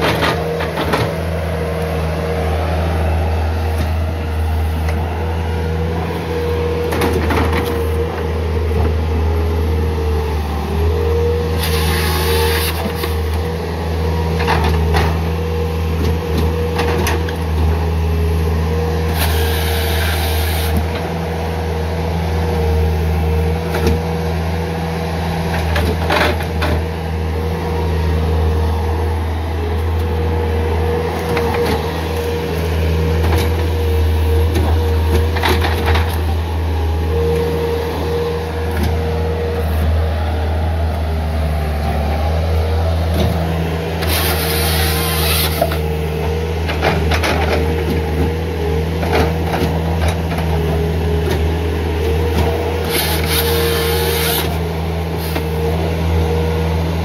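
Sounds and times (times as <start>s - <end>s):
hydraulic whine: 0.0s - 13.6s, 19.0s - 21.3s, 24.6s - 51.4s, 52.0s - 57.0s
diesel engine running: 0.0s - 57.0s.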